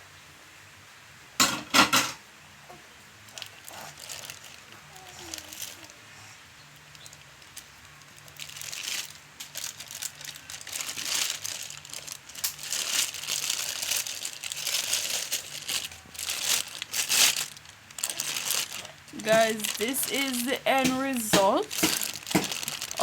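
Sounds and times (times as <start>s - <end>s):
plastic crinkling and rustling: 2.7s - 23.0s.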